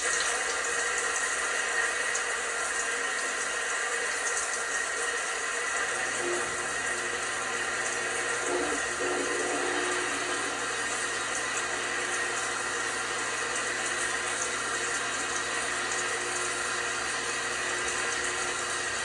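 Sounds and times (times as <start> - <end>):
washing machine running: 0.0 - 19.0
water rushing inside machine: 0.0 - 19.0.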